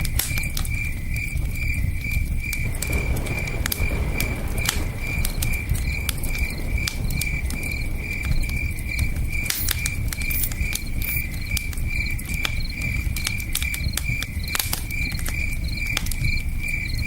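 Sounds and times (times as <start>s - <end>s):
campfire crackling and popping: 0.0s - 17.0s
crickets chirping: 0.0s - 17.0s.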